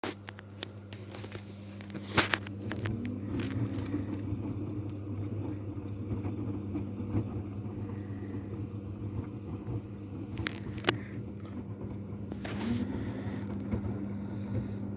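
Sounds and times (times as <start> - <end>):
washing machine motor humming: 0.0 - 14.9.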